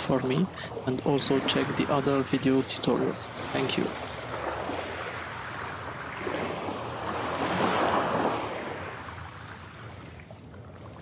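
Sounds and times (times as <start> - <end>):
ocean waves surf: 0.0 - 11.0.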